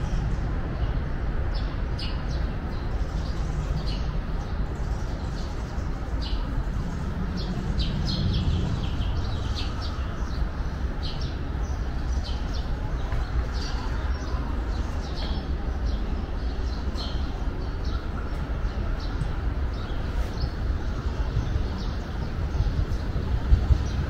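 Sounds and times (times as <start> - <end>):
steady low rumble: 0.0 - 24.0
small birds chirping: 0.7 - 24.0.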